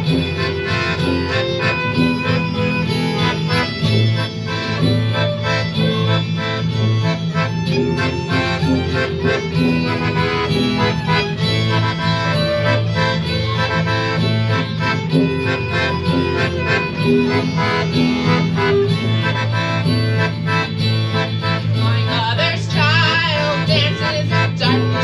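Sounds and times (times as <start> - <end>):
fiddle melody: 0.0 - 25.0
low bass line: 0.0 - 25.0
strummed guitar: 0.0 - 25.0.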